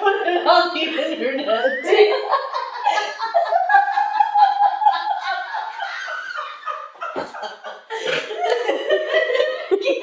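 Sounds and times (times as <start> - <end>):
women laughing: 0.8 - 10.0.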